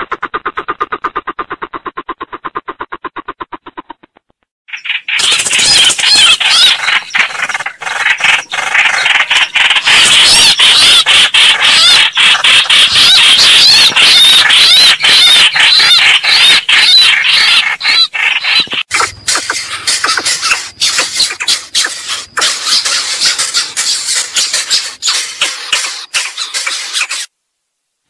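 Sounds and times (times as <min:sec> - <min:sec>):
many birds squealing: 0:04.7 - 0:27.3.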